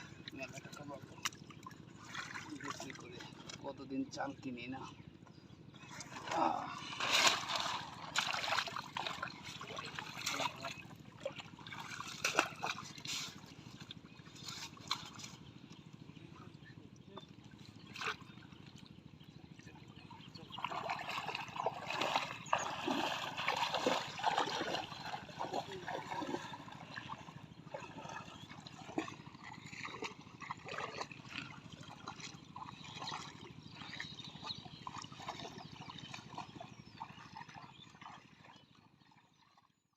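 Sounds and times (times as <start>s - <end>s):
river water splashing: 0.0s - 3.8s, 5.8s - 39.5s.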